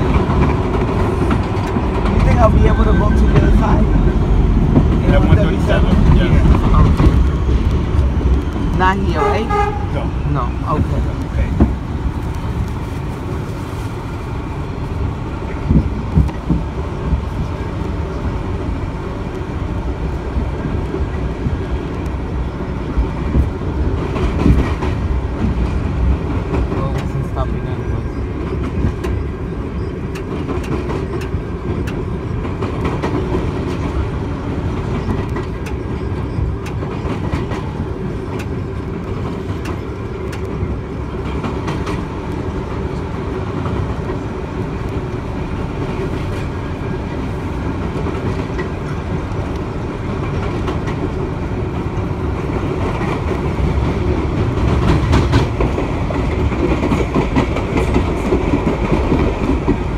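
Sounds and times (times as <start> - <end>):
passing train: 0.0 - 59.9
train wheels rumbling on rail: 0.0 - 59.9.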